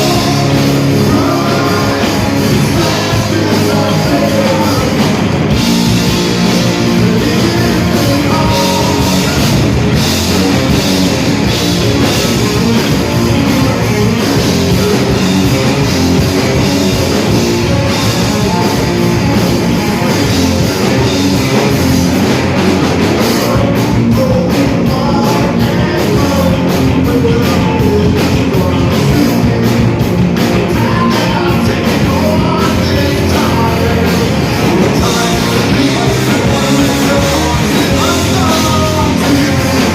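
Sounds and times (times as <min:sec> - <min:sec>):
drum kit beat: 0:00.0 - 0:39.9
rock band playing: 0:00.0 - 0:39.9.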